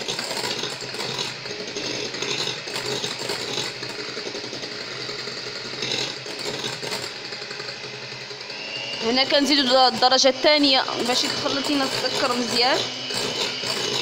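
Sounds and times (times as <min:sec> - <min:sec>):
electric hand mixer whipping eggs: 0:00.0 - 0:14.0.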